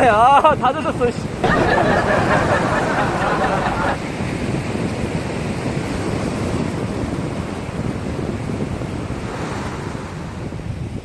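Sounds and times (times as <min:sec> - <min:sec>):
surf on rocky shore: 0:00.0 - 0:11.0
wind buffeting microphone: 0:00.0 - 0:11.0.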